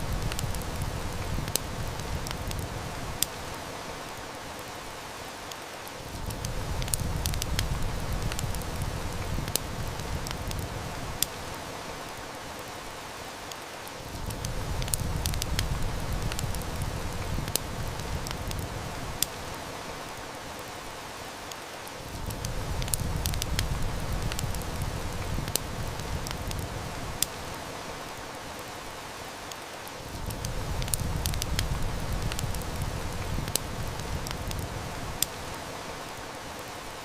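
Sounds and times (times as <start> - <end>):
heavy rain hissing: 0.0 - 37.0
wood fire crackling: 0.0 - 37.0.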